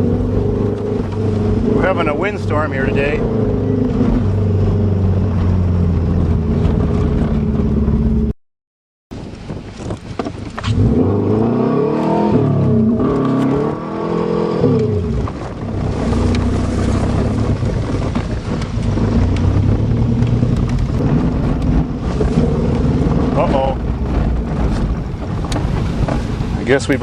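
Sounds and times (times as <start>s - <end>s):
car engine revving: 0.0s - 8.3s, 10.6s - 27.0s
wind noise: 0.0s - 8.3s, 9.1s - 27.0s.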